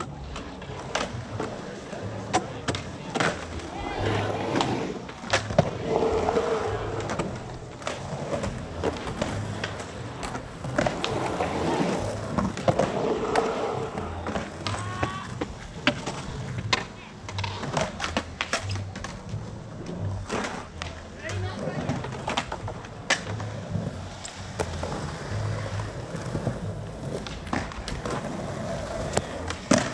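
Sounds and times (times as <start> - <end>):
skateboard clicks and knocks: 0.0 - 29.9
skateboard wheels rolling on concrete: 0.0 - 29.9.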